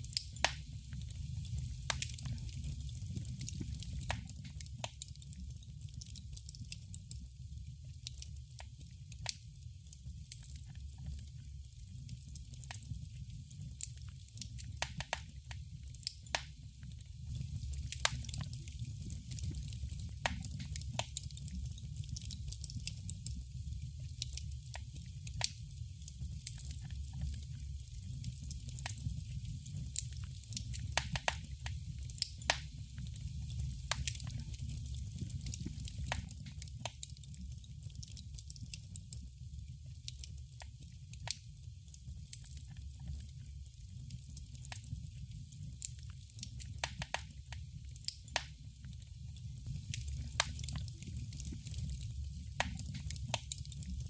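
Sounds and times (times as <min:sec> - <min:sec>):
fire low rumble: 0:00.0 - 0:54.0
wood fire popping and snapping: 0:00.0 - 0:54.0.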